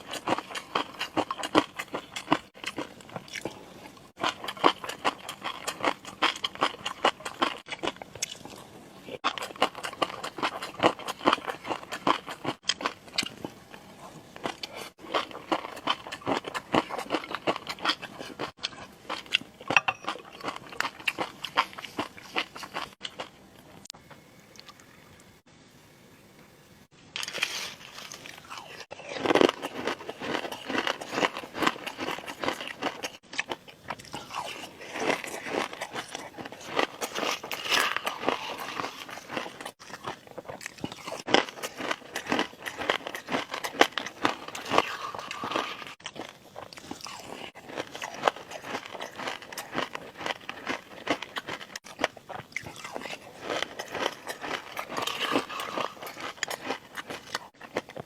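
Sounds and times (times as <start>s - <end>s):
crunchy food chewing: 0.0s - 24.9s, 27.2s - 58.0s.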